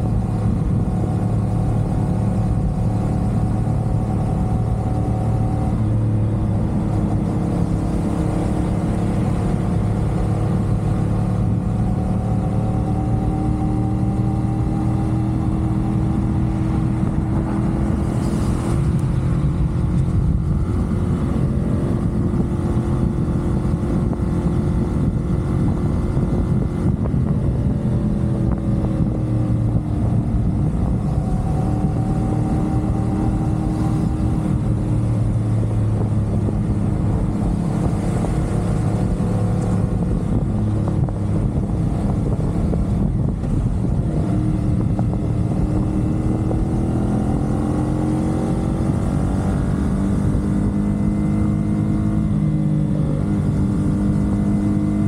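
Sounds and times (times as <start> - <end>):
low rumble of road noise: 0.0 - 55.0
motorcycle engine running: 0.0 - 55.0.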